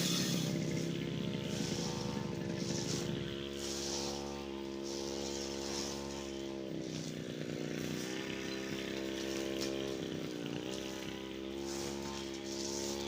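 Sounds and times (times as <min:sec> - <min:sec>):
brush cutter engine revving: 0:00.0 - 0:13.0.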